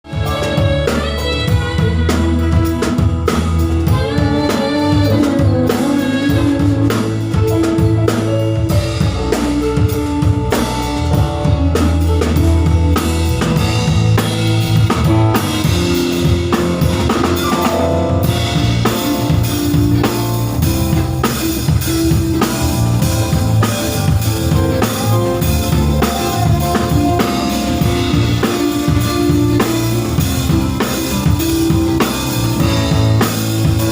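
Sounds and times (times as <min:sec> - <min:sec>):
loud music with drum beat: 0:00.0 - 0:33.9.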